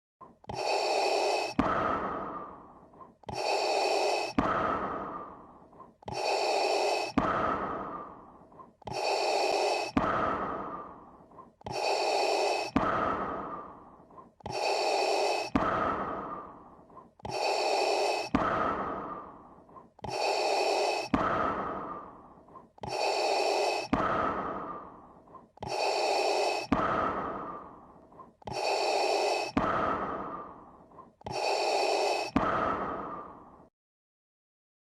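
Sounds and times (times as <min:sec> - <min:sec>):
mechanical respirator breathing: 0:00.2 - 0:33.7.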